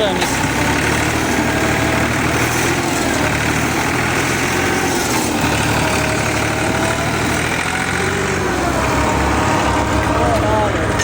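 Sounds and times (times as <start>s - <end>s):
tractor engine under load: 0.0s - 11.0s.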